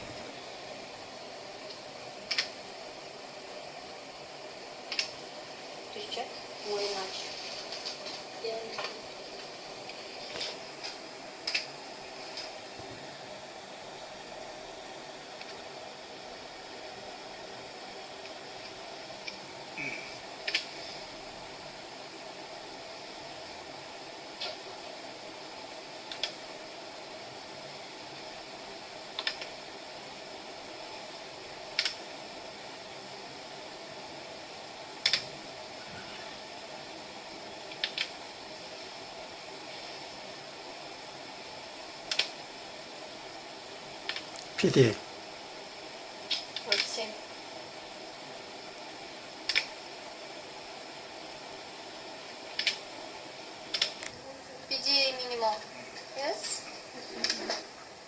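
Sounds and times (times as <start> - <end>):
fan-like equipment hiss: 0.0 - 58.0.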